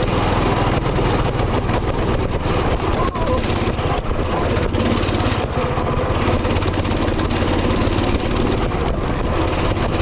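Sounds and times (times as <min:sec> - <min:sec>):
mini bike engine running: 0:00.0 - 0:10.0.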